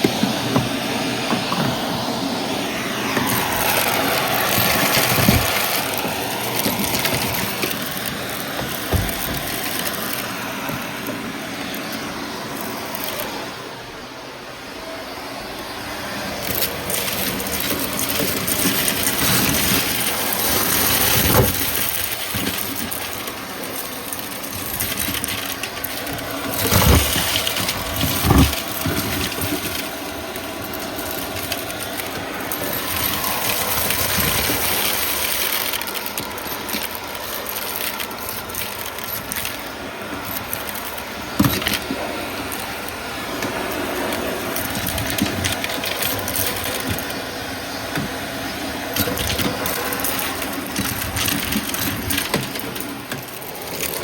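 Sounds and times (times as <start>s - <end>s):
vacuum cleaner running: 0.0s - 54.0s
knocks and rattles: 3.0s - 13.3s, 16.4s - 47.3s, 47.9s - 54.0s.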